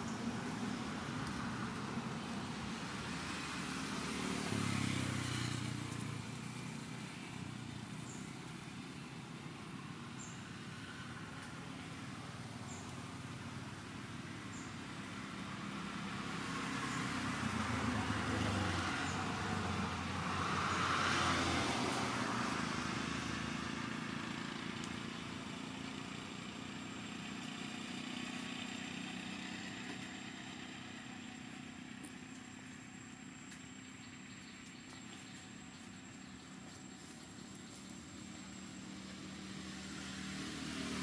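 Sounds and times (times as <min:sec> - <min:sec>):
vehicle passing on road: 0:00.0 - 0:41.0.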